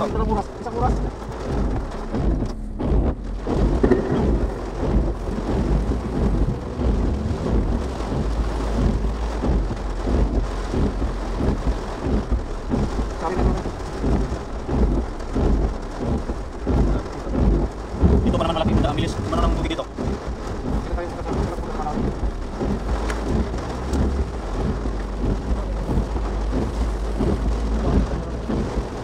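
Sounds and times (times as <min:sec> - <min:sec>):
deep rumble: 0:00.0 - 0:29.0
heavy rain on car roof: 0:00.0 - 0:29.0.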